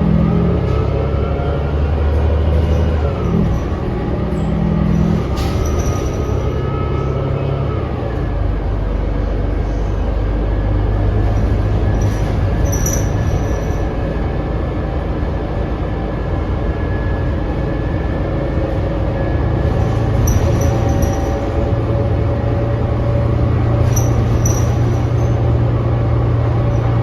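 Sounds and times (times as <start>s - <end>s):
bus engine drone: 0.0s - 27.0s.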